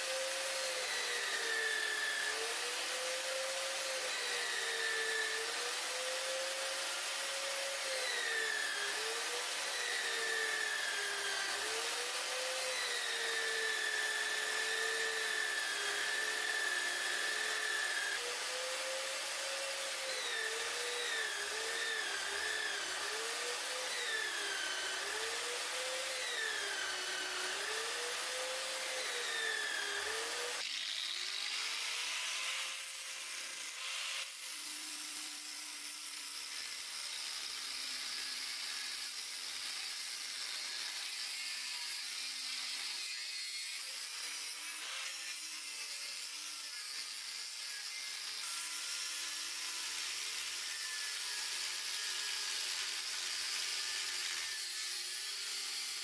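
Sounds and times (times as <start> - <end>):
power tool motor: 0.0 - 56.0.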